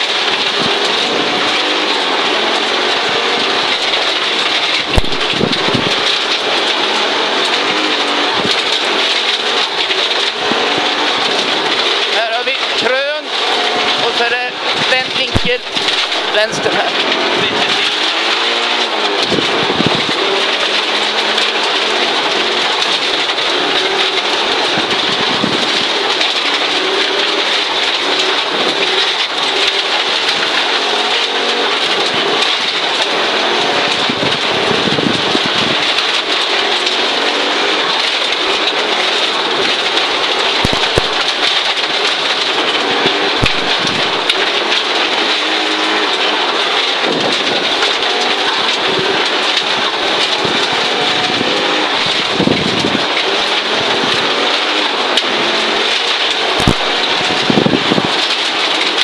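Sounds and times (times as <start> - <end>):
rally car engine running hard: 0.0 - 59.0.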